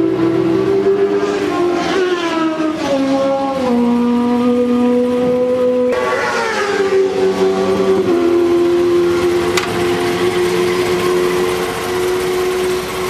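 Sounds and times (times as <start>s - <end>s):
motorcycle engine whining: 0.0s - 13.0s.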